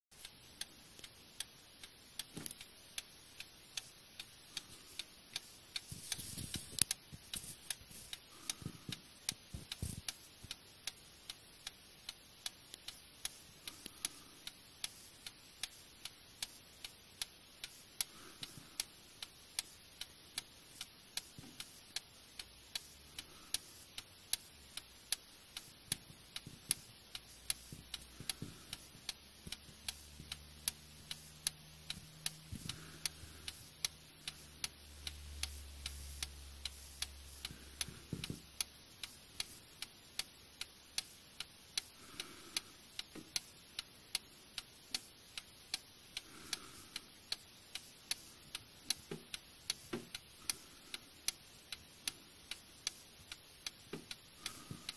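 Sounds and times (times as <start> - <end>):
clock ticking: 0.1 - 54.9.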